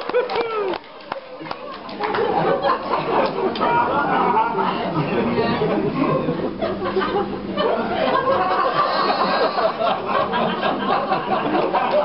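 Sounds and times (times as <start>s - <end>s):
audience laughing and chattering: 0.0s - 12.0s.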